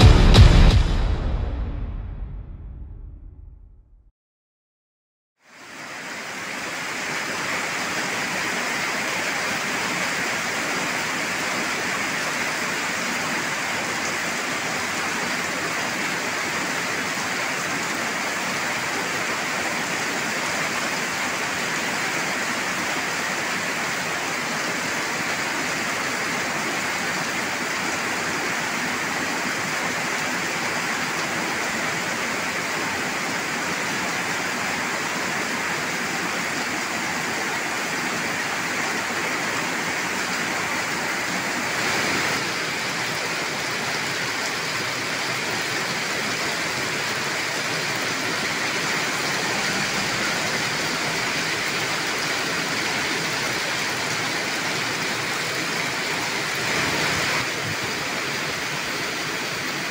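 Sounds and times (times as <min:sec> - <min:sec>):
heavy rain pouring: 0:05.4 - 0:59.9.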